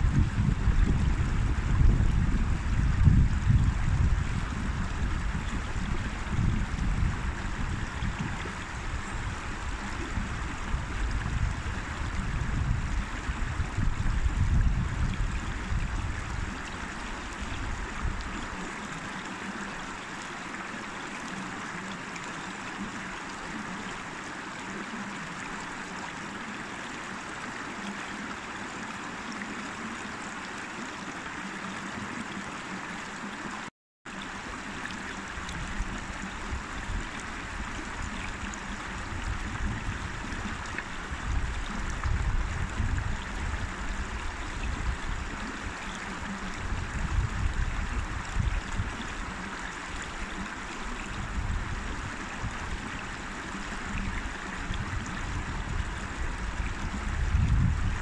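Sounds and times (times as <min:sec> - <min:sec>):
river water rushing: 0:00.7 - 0:57.6.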